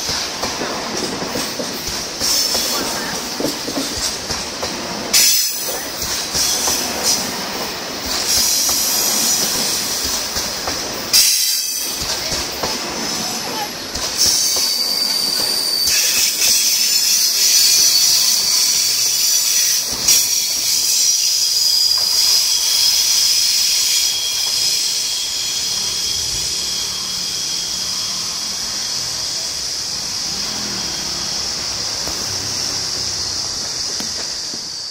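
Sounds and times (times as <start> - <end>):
train wheels squealing on rails: 0.0 - 34.9.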